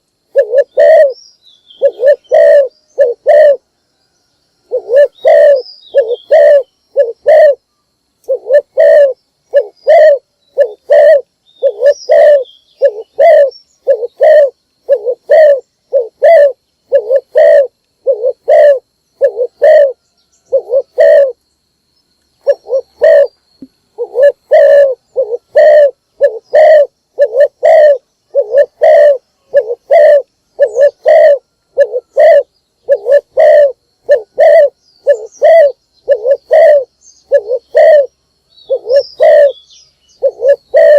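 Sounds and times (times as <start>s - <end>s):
dove cooing: 0.0s - 1.2s, 1.8s - 3.7s, 4.6s - 7.6s, 8.2s - 21.4s, 22.4s - 23.4s, 24.0s - 40.9s.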